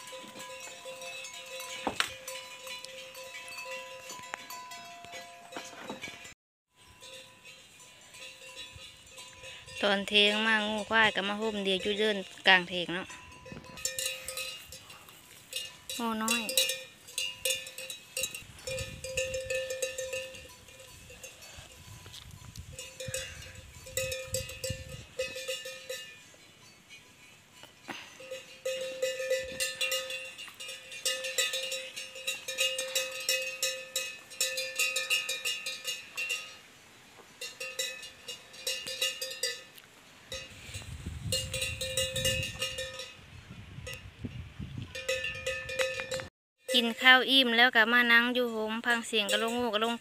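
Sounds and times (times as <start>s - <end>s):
cattle bells clanking: 0.0s - 44.2s, 44.8s - 50.0s.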